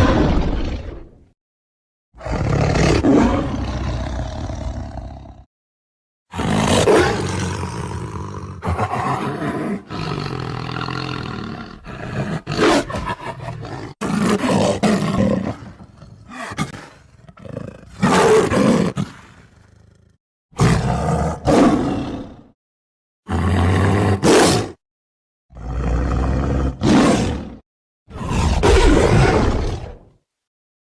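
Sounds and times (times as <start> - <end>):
tiger roaring: 2.2 - 5.5, 6.3 - 22.5, 23.3 - 24.8, 25.5 - 30.1.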